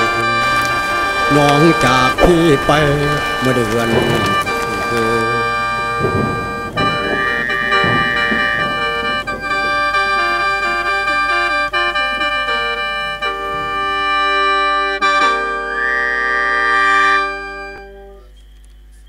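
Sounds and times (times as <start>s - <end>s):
instrumental folk music: 0.0s - 19.0s.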